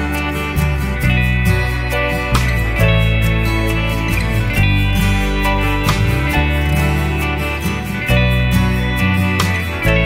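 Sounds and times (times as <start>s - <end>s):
country music with guitar: 0.0s - 10.0s.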